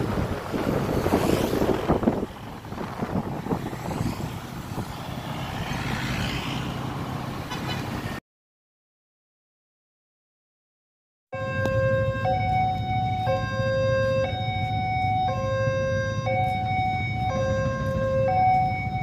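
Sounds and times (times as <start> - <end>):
motorbikes and cars passing: 0.0 - 8.2, 11.4 - 19.0.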